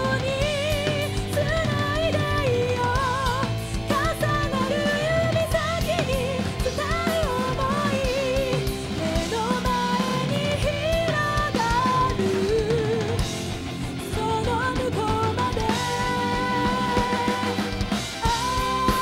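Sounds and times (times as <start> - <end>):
bass guitar: 0.0 - 19.0
drum kit: 0.0 - 19.0
electric guitar: 0.0 - 19.0
woman singing: 0.0 - 19.0.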